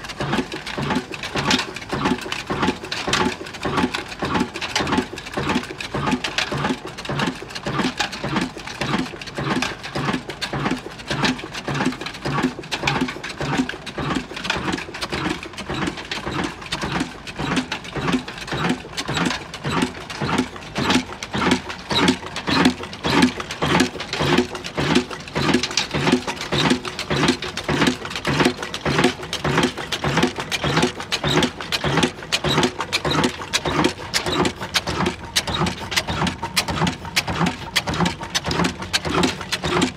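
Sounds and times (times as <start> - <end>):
diesel engine running slowly: 0.0 - 39.9.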